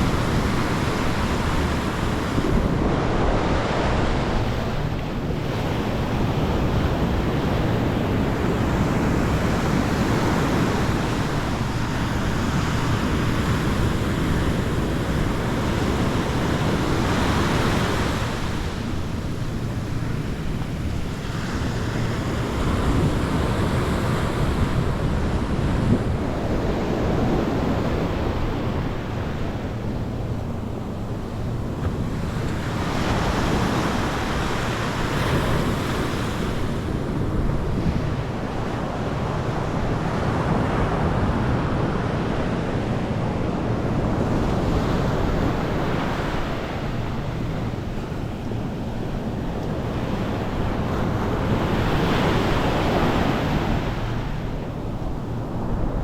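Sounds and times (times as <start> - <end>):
waves breaking on beach: 0.0 - 56.0
wind on microphone: 0.0 - 56.0.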